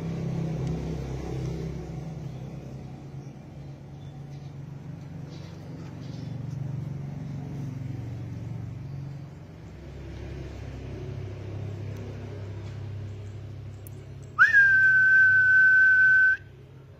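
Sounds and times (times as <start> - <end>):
motor rumbling: 0.0 - 15.6.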